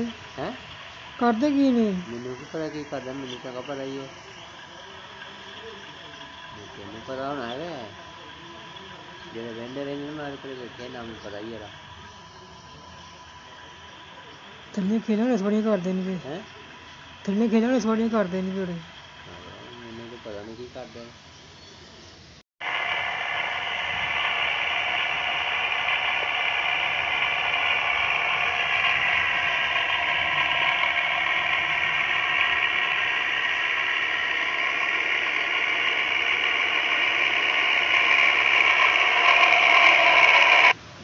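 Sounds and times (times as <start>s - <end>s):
tractor engine and machinery whine: 0.0s - 21.6s, 22.6s - 41.0s.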